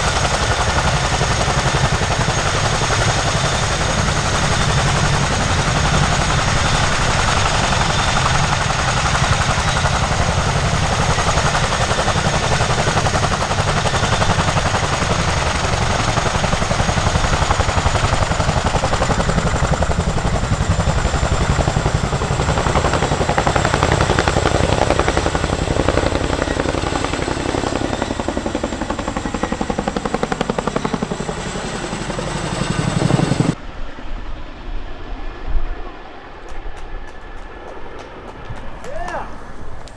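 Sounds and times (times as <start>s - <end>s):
helicopter rotor beating: 0.0s - 34.0s, 36.1s - 39.9s.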